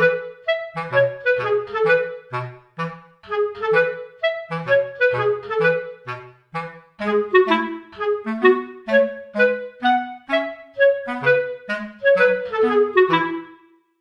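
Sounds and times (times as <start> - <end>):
clarinet tune: 0.0 - 14.0.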